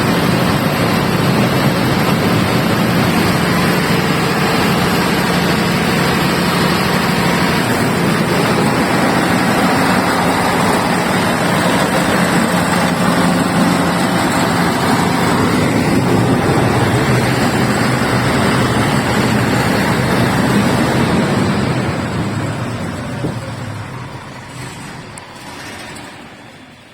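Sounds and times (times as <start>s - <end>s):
diesel generator running: 0.0s - 26.9s.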